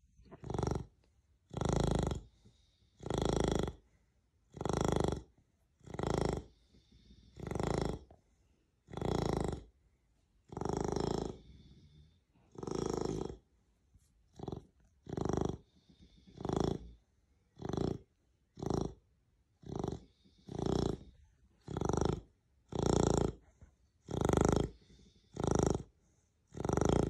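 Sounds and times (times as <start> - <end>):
dog snoring: 0.2 - 8.2, 8.8 - 9.8, 10.5 - 13.5, 14.3 - 27.0.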